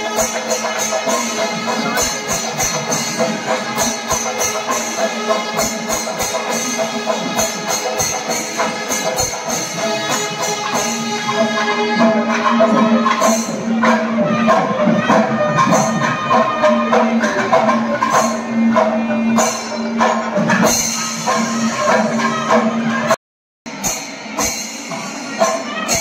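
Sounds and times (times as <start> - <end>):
hand cymbals clashing: 0.0 - 14.7, 15.6 - 22.7, 23.7 - 26.0
drums: 0.0 - 26.0.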